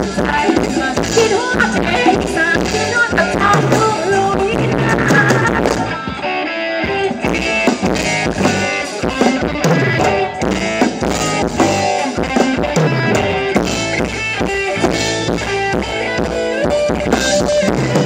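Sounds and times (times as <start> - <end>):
drum kit beat: 0.0 - 18.0
guitar: 0.0 - 18.0.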